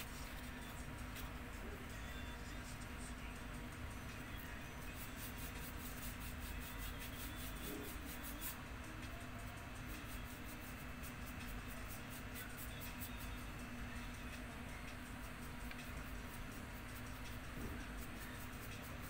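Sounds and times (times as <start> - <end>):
paintbrush scratching on paper: 0.0 - 1.4, 4.7 - 19.0
steady low hum: 0.0 - 19.0.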